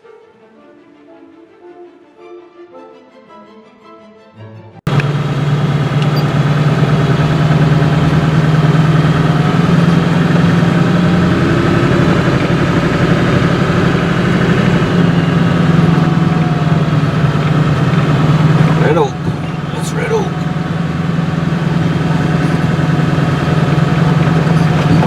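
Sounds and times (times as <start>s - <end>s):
vehicle engine running: 4.9s - 25.0s.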